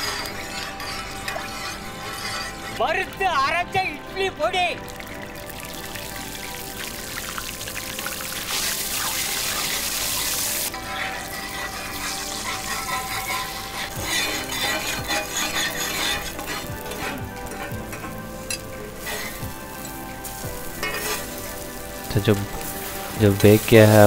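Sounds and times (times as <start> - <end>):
batter sizzling on griddle: 0.0 - 3.6, 4.8 - 24.0
background music: 0.0 - 24.0.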